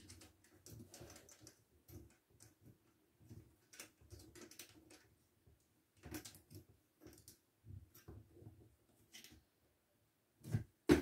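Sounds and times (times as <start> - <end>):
faint clicks and light taps: 0.0 - 9.5.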